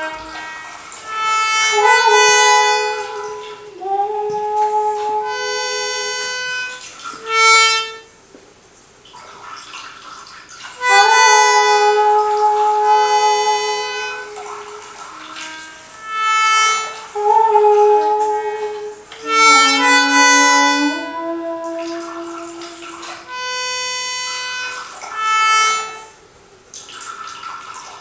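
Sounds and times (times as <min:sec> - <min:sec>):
reed instrument chords: 0:00.0 - 0:08.3, 0:10.8 - 0:26.7.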